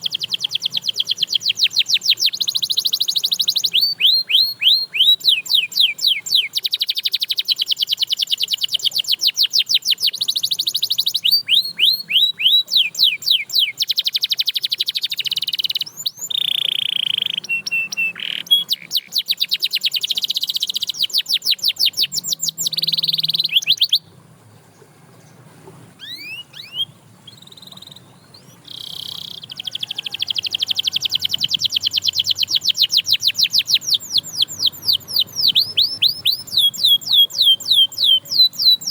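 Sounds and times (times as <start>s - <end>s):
canary chirps: 0.0s - 24.1s, 26.0s - 38.9s
canary trilling: 0.0s - 24.1s, 26.0s - 38.9s
canary whistle: 0.0s - 24.1s, 26.0s - 38.9s.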